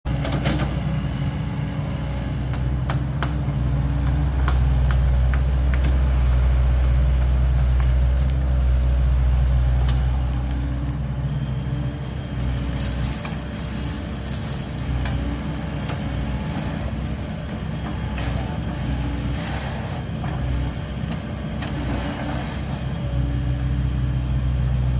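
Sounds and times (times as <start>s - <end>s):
excavator diesel engine running: 0.1s - 24.9s.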